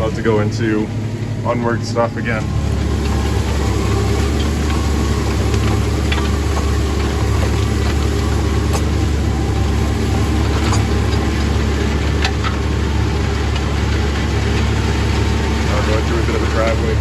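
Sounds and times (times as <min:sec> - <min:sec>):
implement clicking and rattling: 0:00.0 - 0:17.0
tractor engine running: 0:00.0 - 0:17.0.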